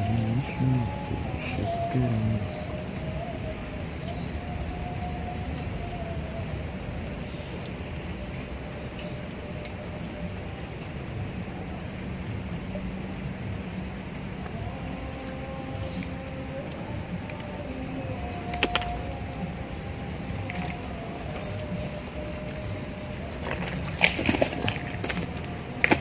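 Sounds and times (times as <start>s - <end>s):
bird chirping: 0.0s - 26.0s
low background noise: 0.0s - 26.0s.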